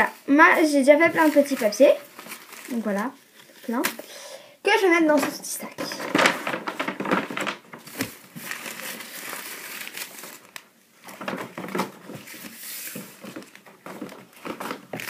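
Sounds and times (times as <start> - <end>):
paper and gift bag rustling: 0.0 - 4.1, 4.8 - 15.0.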